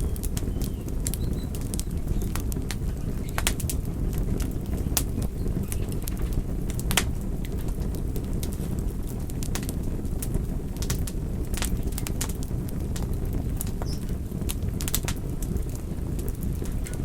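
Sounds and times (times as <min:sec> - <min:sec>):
burning wood crackling and popping: 0:00.0 - 0:17.0
low roar of flames: 0:00.0 - 0:17.0.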